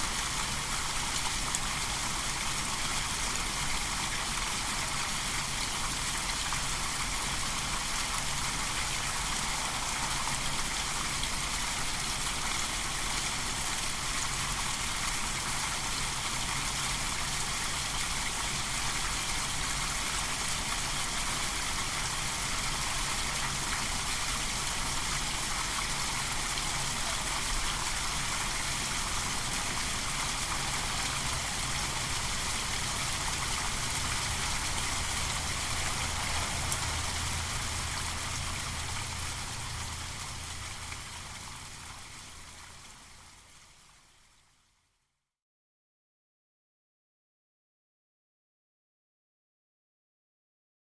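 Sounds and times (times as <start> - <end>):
stream water running: 0.0 - 44.3.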